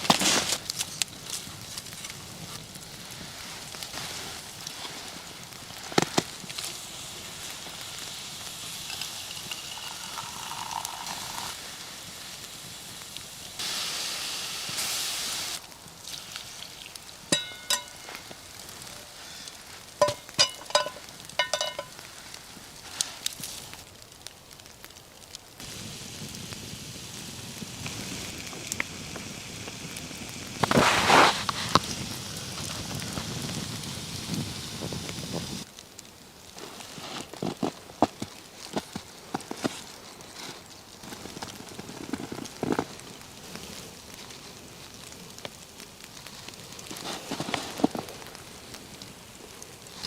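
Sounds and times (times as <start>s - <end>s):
fire crackling: 0.0s - 50.0s.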